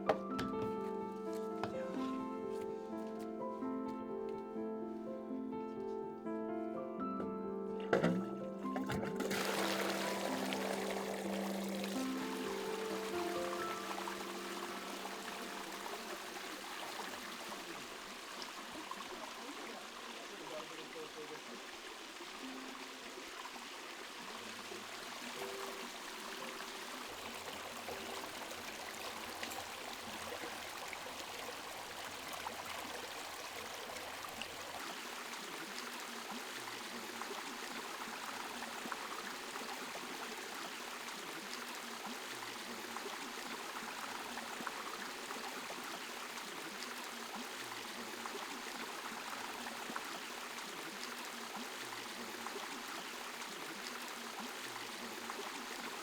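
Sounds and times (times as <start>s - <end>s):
water running over stones: 0.0s - 2.8s, 7.8s - 56.0s.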